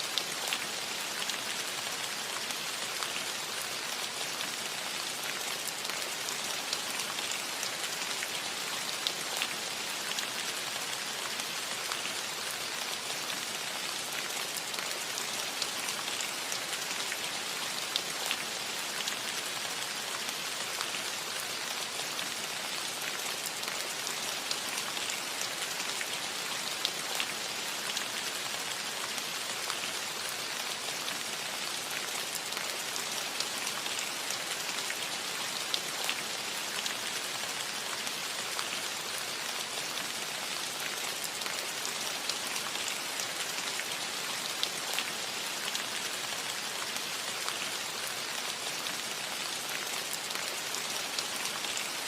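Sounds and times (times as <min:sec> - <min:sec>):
rain on a metal roof: 0:00.0 - 0:52.0.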